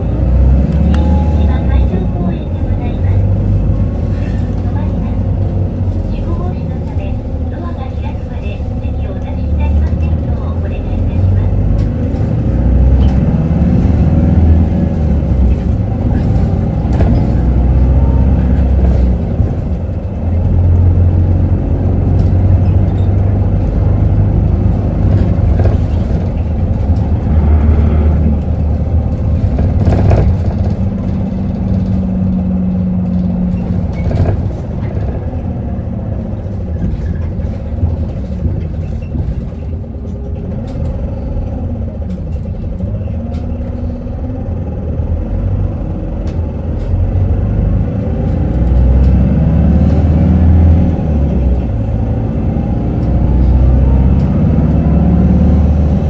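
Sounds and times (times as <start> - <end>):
bus diesel engine: 0.0 - 56.0
road rumble: 0.0 - 56.0.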